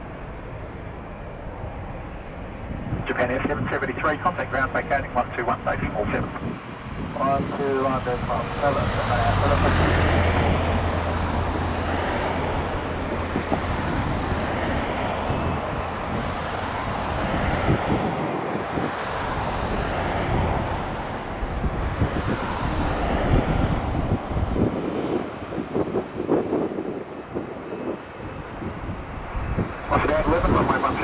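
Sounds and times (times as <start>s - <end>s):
jet engines at low power: 0.0s - 31.0s
wind buffeting microphone: 0.0s - 31.0s.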